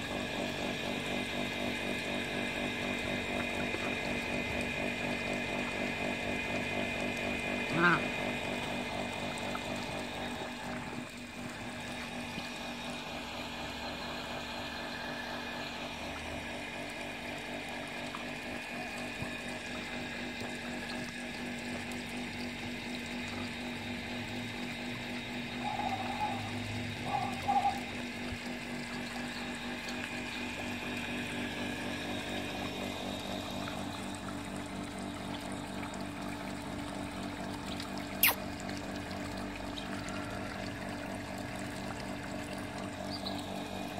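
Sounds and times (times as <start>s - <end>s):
hose water running into puddle: 0.0s - 43.9s
steady mechanical hum: 0.0s - 43.9s.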